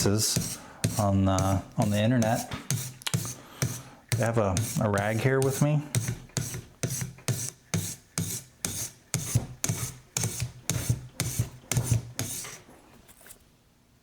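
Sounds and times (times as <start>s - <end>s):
sharpening stone rasping on knife: 0.0s - 12.6s.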